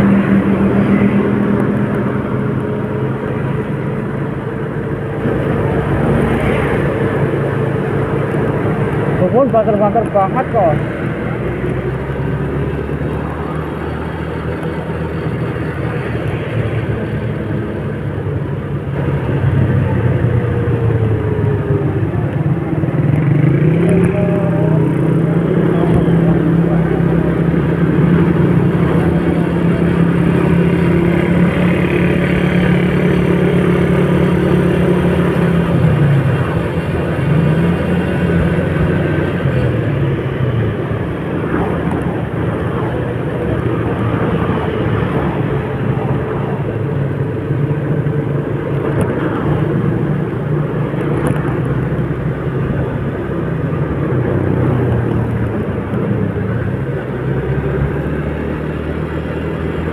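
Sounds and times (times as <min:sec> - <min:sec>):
road noise: 0:00.0 - 0:59.9
vehicle engine hum: 0:00.0 - 0:59.9.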